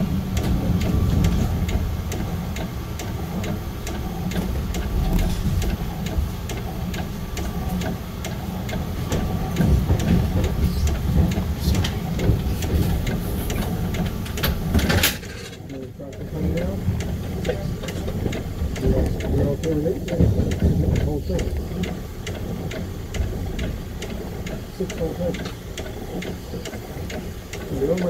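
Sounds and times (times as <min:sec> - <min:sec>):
train rumbling over bridge: 0:00.0 - 0:28.0
wheels clicking on track: 0:00.0 - 0:28.0.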